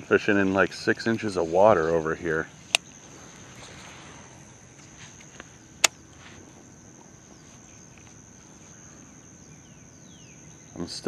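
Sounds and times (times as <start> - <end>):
crickets chirring: 0.0 - 11.0
outdoor hiss: 0.0 - 11.0.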